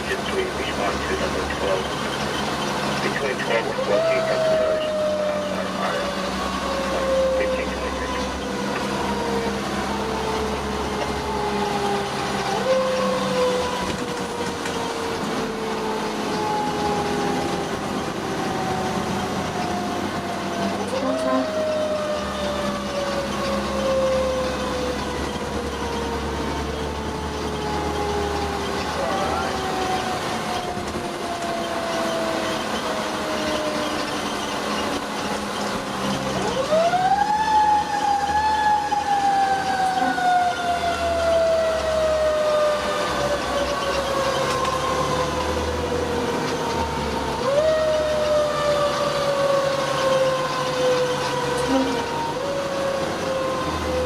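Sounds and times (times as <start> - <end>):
truck engine drone: 0.0 - 54.0.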